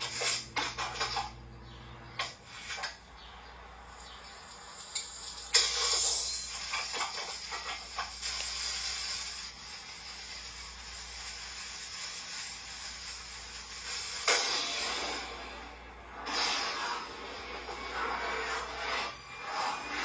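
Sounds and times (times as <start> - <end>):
crackles: 2.2 - 20.0.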